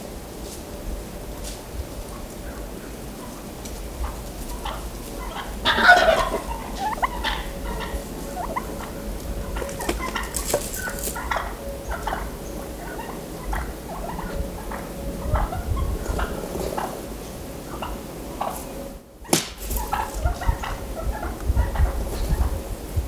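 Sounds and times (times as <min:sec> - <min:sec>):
turkey gobbling: 0:02.2 - 0:22.6.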